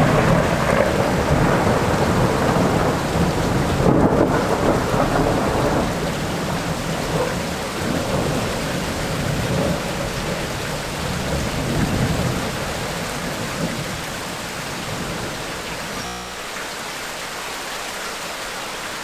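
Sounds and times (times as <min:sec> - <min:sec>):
thunder rumbling: 0:00.0 - 0:16.0
heavy rain falling: 0:00.0 - 0:19.0.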